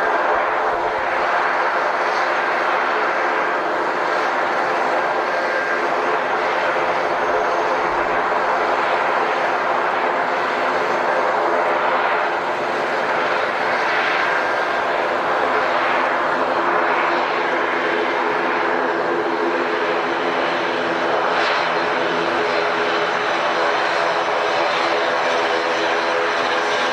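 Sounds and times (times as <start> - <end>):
airliner engines droning: 0.0 - 26.9.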